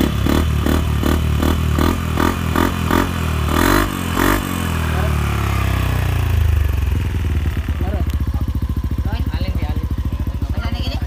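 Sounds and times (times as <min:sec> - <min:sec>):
scooter engine revving and idling: 0:00.0 - 0:11.0.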